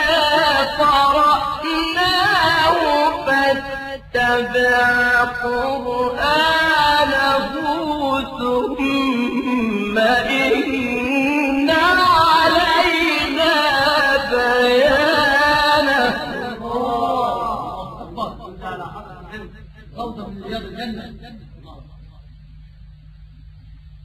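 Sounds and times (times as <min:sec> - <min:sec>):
man chanting melodically: 0:00.0 - 0:22.3.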